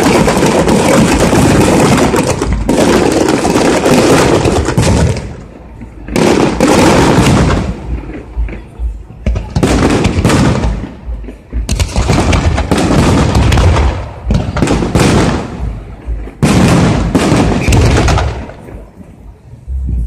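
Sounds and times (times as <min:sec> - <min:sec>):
firework booms with echo: 0:00.0 - 0:19.4.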